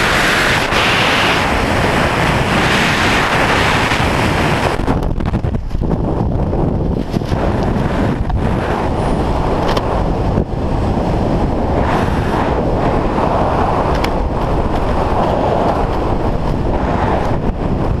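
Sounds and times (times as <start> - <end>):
buffeting crackles: 0.0 - 18.0
loud wind rush: 0.0 - 18.0.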